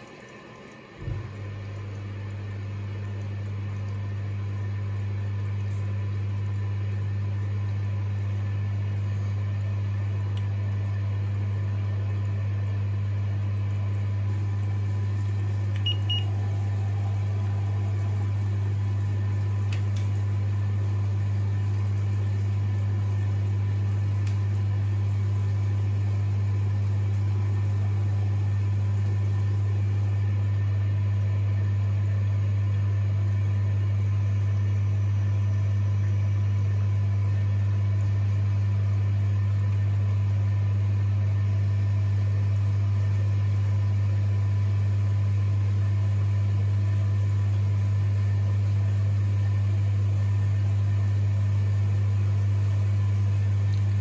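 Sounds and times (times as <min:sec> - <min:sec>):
washing machine low hum: 0:00.0 - 0:54.0.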